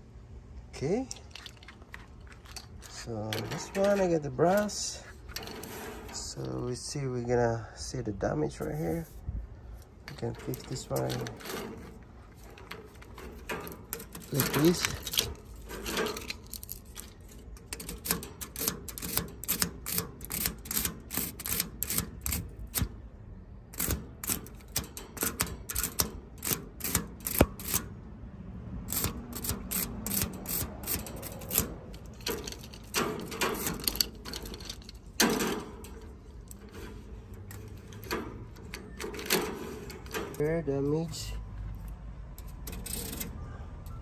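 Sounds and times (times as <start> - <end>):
fin comb scratching metal fins: 1.2 - 6.8, 9.8 - 22.9, 23.8 - 27.9, 28.9 - 41.2, 42.4 - 44.0.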